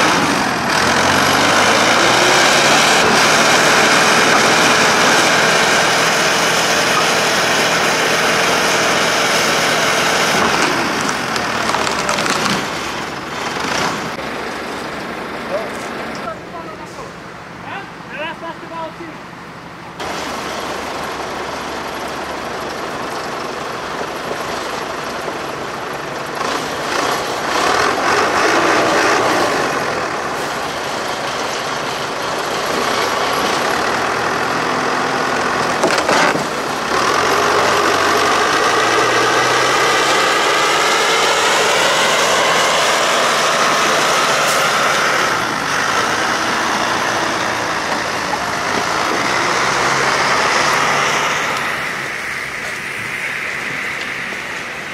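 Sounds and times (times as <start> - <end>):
diesel engine revving under load: 0.0 - 18.4, 19.2 - 54.9.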